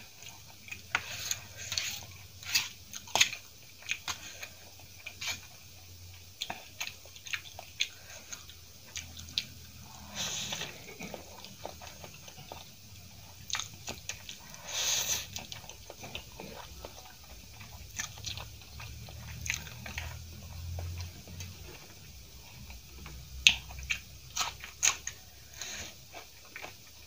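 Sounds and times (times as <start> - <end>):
chewing soft noodles: 0.0 - 27.0.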